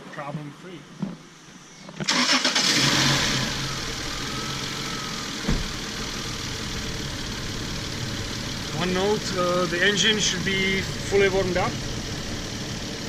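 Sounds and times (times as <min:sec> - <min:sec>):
engine starting and idling: 0:02.0 - 0:13.0.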